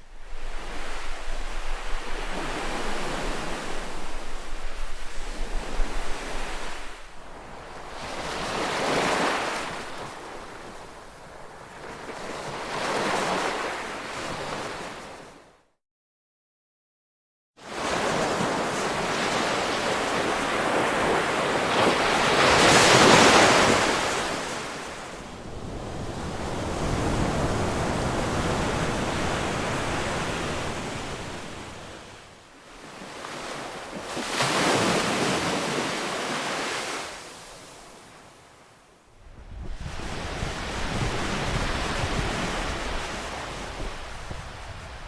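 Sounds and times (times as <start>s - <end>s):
waves breaking on shore: 0.0s - 15.4s, 17.6s - 45.0s.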